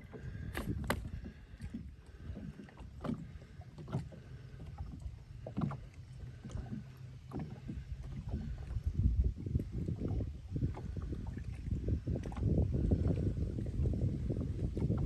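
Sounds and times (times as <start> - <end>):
boat low rumble: 0.0 - 15.0.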